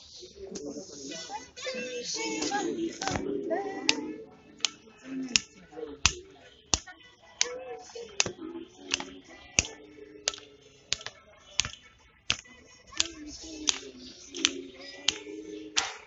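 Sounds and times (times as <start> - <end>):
person singing: 0.0 - 16.0
hand clapping steady beat: 2.4 - 16.0.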